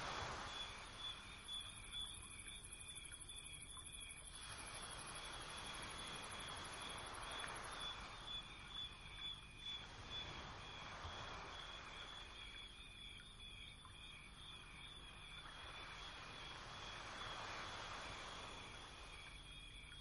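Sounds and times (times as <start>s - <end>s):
low steady hiss: 0.0s - 20.0s
insect-like chirping: 0.1s - 20.0s.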